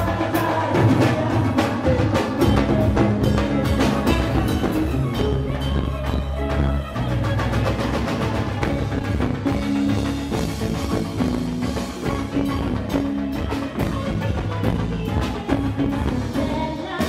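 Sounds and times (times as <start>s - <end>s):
drum kit and percussion beat: 0.0s - 17.0s
up-tempo band music: 0.0s - 17.0s.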